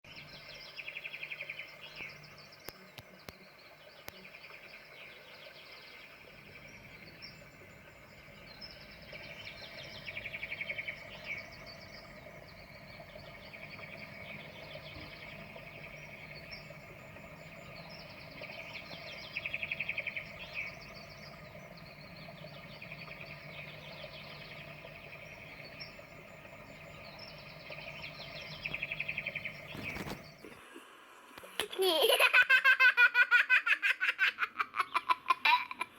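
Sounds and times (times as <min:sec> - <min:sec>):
faint bird chirps: 0:00.1 - 0:30.5
steady low hum: 0:00.1 - 0:31.7.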